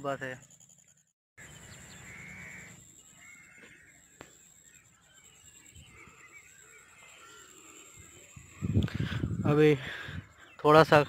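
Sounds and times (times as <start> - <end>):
birds chirping and calling: 0.0 - 11.0
faint outdoor background noise: 0.0 - 11.0.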